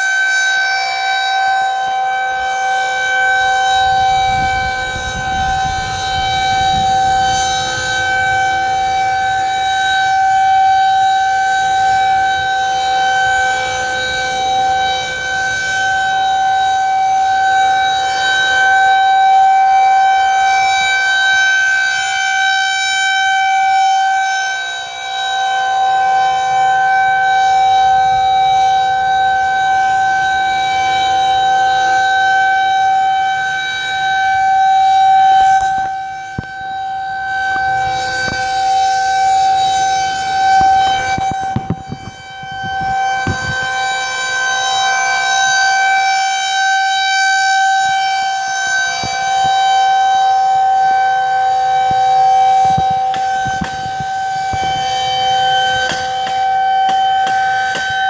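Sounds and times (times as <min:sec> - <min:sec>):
tornado siren wailing: 0:00.0 - 0:58.0.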